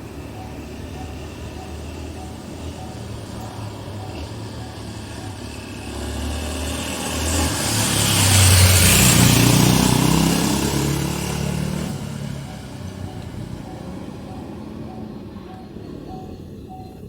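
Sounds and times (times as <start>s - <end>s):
motor vehicle passing by: 0.0s - 17.0s.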